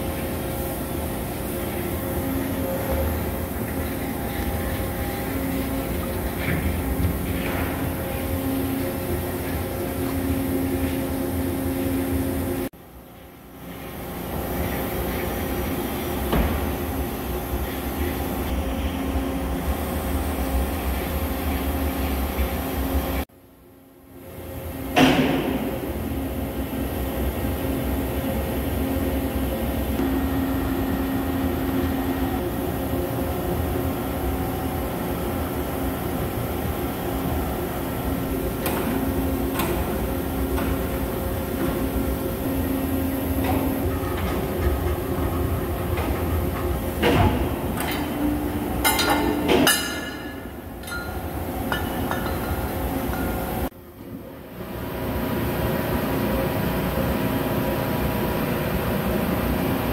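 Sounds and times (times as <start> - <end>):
machinery hum with held tones: 0.0 - 59.9.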